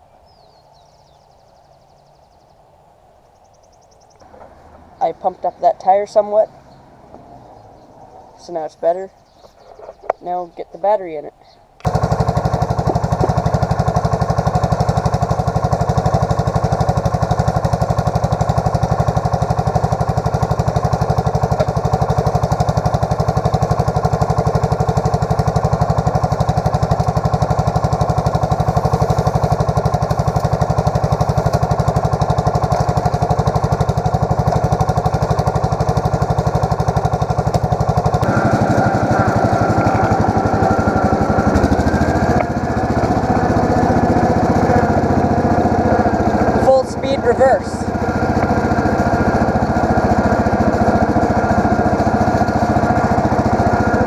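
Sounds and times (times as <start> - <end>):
garden tractor engine running: 4.0 - 54.0.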